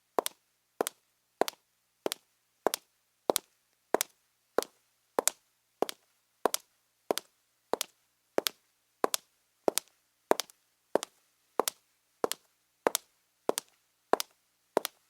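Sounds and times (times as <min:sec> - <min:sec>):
high-heeled shoes walking: 0:00.2 - 0:15.0.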